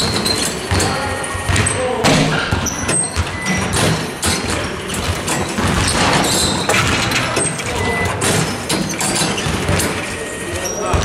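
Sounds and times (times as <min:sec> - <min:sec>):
basketballs bouncing: 0:00.0 - 0:11.0
sneakers squeaking on gym floor: 0:00.0 - 0:11.0.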